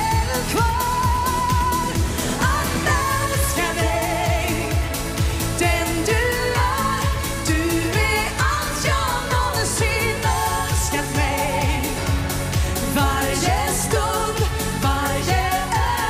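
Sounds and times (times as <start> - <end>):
backing singers: 0.0 - 16.0
pop band track with drum beat: 0.0 - 16.0
woman singing with vibrato: 0.0 - 16.0.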